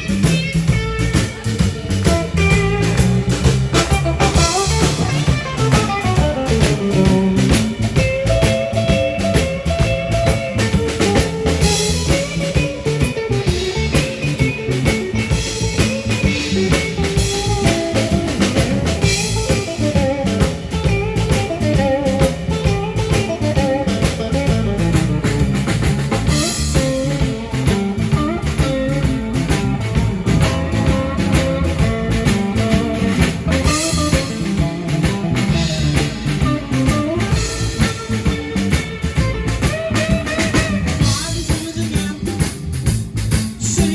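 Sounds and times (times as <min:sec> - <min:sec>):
drum kit steady beat: 0:00.0 - 0:43.9
guitar: 0:00.0 - 0:43.9.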